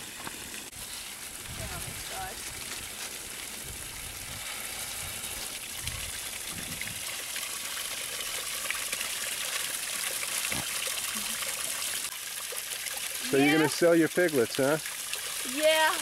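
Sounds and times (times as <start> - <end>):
water splashing into a tub: 0.0 - 16.0.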